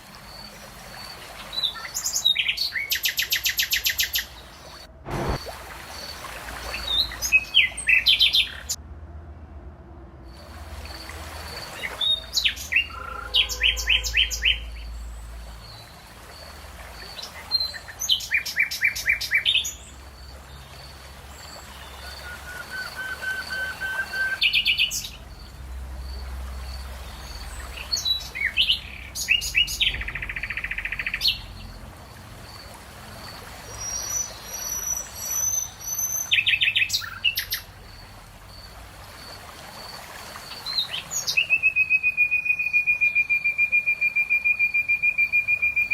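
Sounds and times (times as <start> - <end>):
songbirds chirping: 0.0 - 8.8, 10.4 - 45.9.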